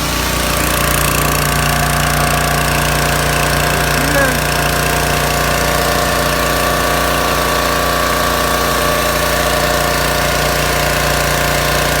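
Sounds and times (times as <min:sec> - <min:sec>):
pressure washer engine running: 0:00.0 - 0:12.0.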